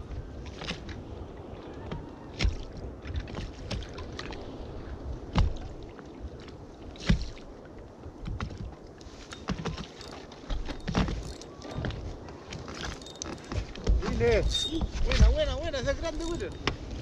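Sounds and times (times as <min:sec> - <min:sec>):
water slapping against boat: 0:00.0 - 0:17.0
wind on microphone: 0:00.0 - 0:17.0.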